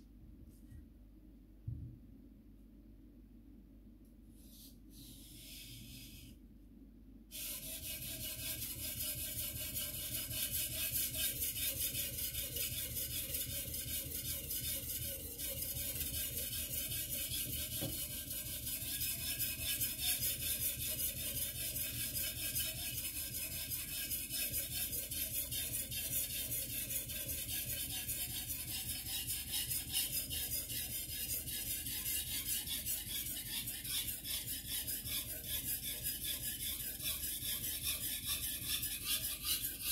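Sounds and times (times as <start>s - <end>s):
knife rasping on whetstone: 7.3s - 39.9s.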